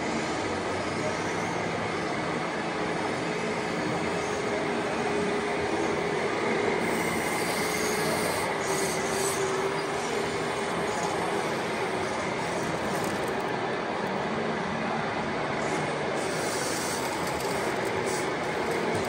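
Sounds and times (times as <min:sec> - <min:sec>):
constant mechanical noise: 0:00.0 - 0:19.0
whine of small electric motors: 0:00.2 - 0:14.2, 0:15.6 - 0:19.0.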